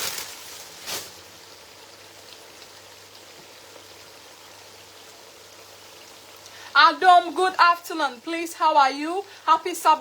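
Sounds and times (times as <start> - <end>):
oil sizzling in a pot: 0.0 - 10.0.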